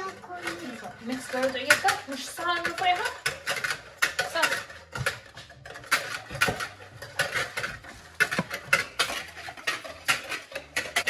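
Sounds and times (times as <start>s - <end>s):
whisk beating batter in bowl: 0.0s - 11.0s.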